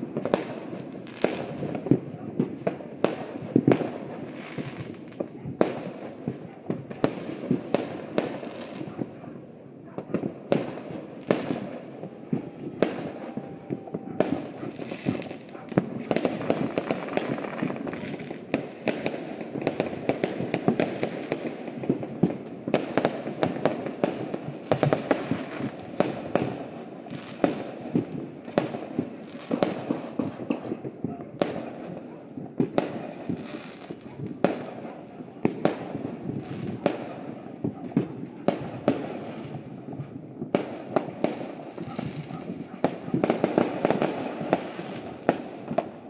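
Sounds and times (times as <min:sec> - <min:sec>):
distant fireworks rumble: 0:00.0 - 0:46.0
firecrackers banging and popping: 0:00.0 - 0:46.0.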